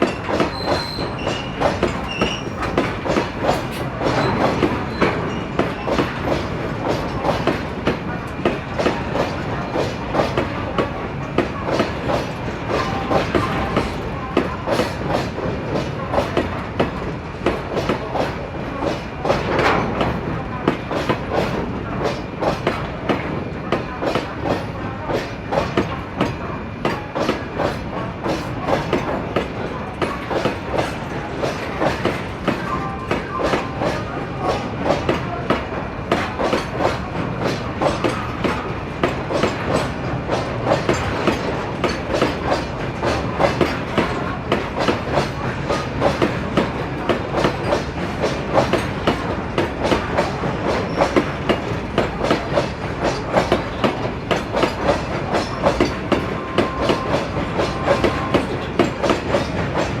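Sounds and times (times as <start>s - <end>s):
train wheels clattering over rail joints: 0.0s - 60.0s.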